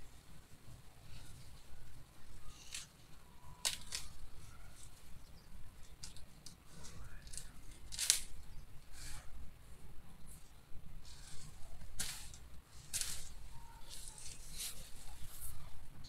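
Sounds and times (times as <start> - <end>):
dry grass rustling and snapping: 1.1 - 9.2, 10.4 - 15.5.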